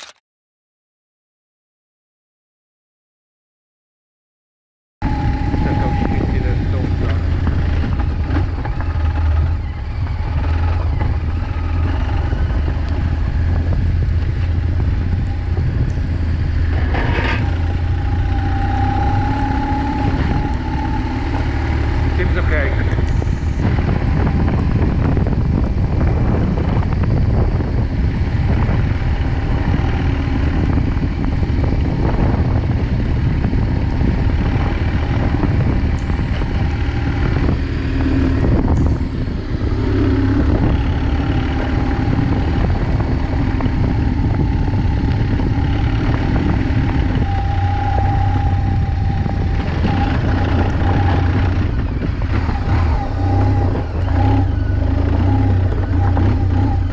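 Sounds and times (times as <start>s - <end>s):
motorcycle engine rumbling: 5.0s - 56.9s.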